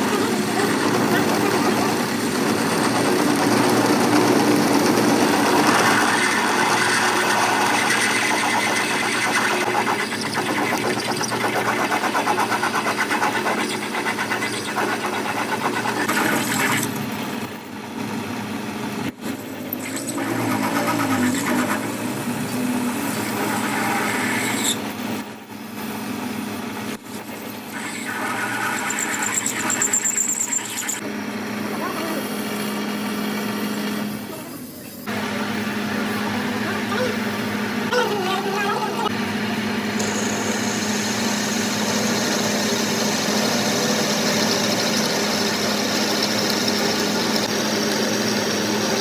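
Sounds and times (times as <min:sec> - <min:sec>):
workshop machinery running: 0:00.0 - 0:49.0.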